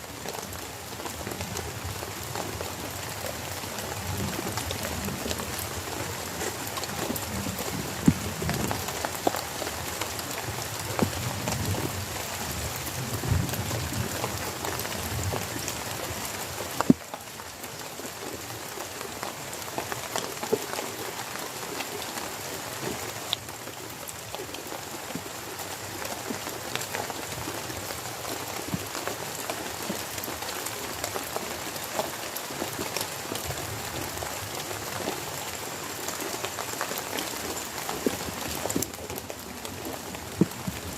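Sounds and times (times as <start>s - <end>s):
heavy rain falling: 0.0s - 40.9s
raindrops ticking close by: 0.0s - 40.9s.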